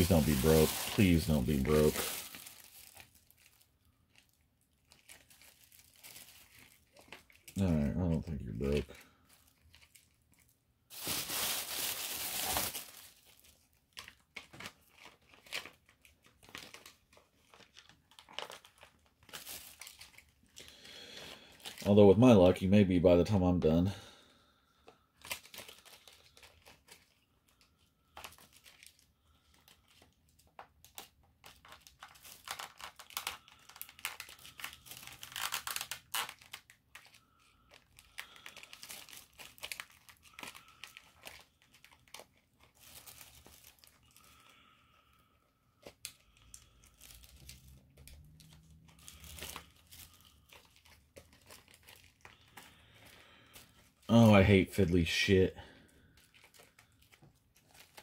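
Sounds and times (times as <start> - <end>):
plastic packaging crinkling: 0.0 - 22.9, 24.8 - 58.0.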